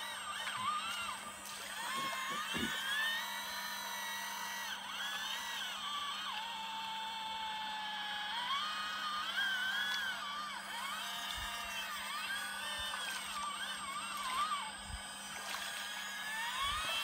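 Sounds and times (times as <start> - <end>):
toy excavator pump whining: 0.0 - 17.0.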